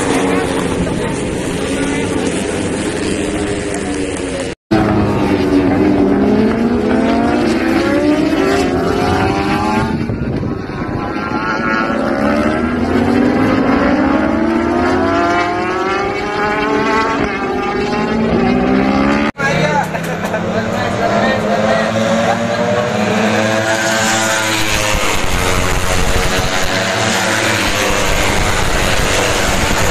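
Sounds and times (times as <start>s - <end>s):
racing motorcycles at high revs: 0.0s - 29.9s.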